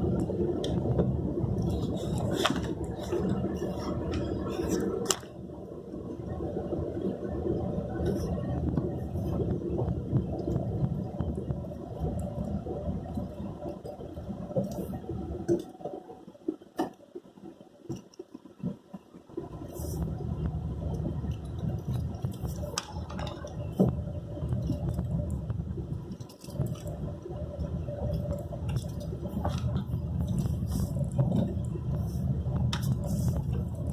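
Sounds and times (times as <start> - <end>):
engine and tyre rumble: 0.0 - 33.9.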